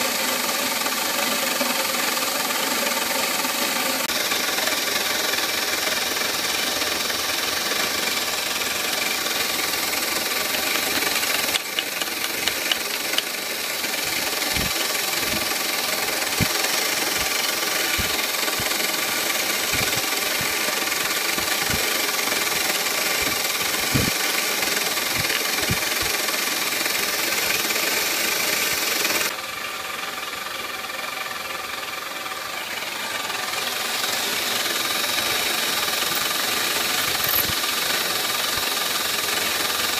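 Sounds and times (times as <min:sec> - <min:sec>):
milling machine whine and cutting hiss: 0:00.0 - 0:29.4, 0:32.6 - 0:39.9.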